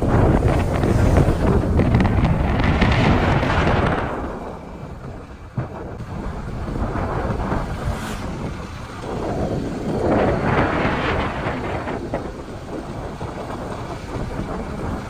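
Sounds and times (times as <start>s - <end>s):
low road rumble: 0.0s - 15.0s
wind buffeting microphone: 0.0s - 15.0s.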